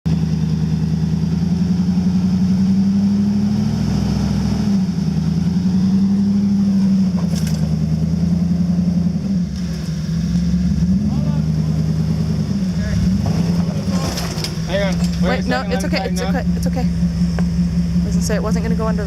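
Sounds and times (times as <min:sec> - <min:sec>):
off-road vehicle engine running: 0:00.1 - 0:19.0.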